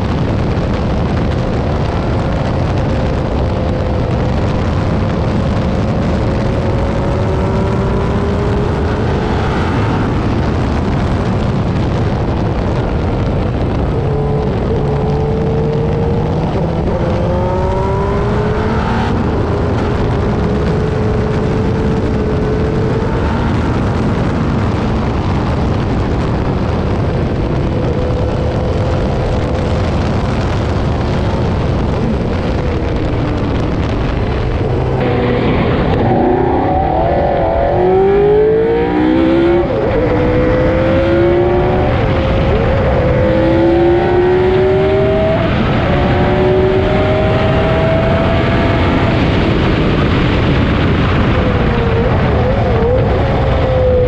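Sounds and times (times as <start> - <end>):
racing car engine at speed: 0.0 - 54.0.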